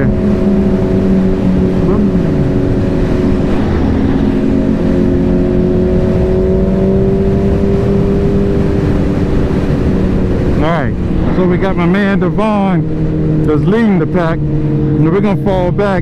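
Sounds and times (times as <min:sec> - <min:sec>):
motorcycle engine cruising: 0:00.0 - 0:16.0
road and wind hiss: 0:00.0 - 0:16.0.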